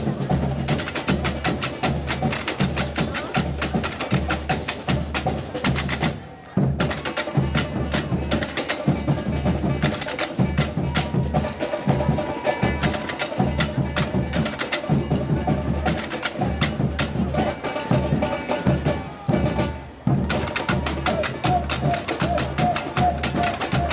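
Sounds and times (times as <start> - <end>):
high clicking percussion: 0.0 - 6.2, 6.8 - 18.4, 20.2 - 23.9
fast snare drumming: 0.0 - 23.9.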